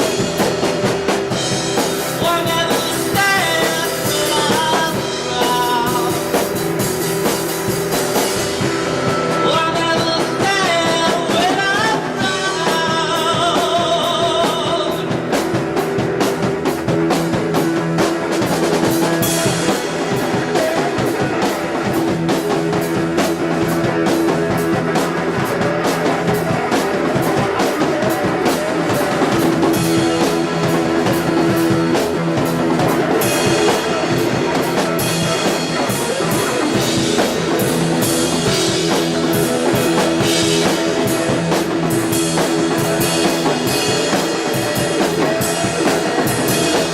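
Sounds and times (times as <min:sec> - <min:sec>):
rock band playing: 0:00.0 - 0:46.9
person singing: 0:01.4 - 0:06.8, 0:08.6 - 0:15.6, 0:19.0 - 0:46.9.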